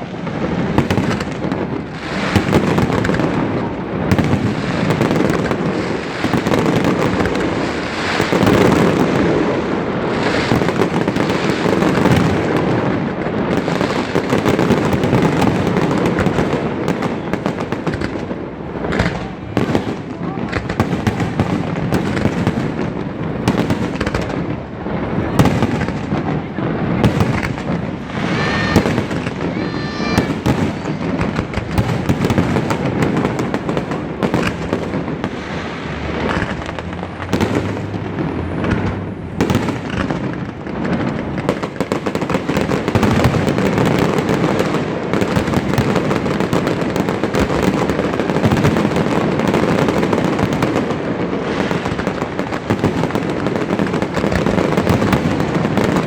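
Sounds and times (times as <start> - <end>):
firework shell bursts and crackling: 0.0 - 56.0.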